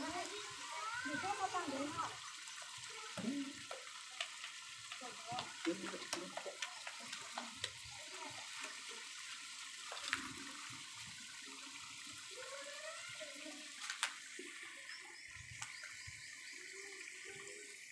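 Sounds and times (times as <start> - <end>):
curry simmering in a pot: 0.0 - 17.9.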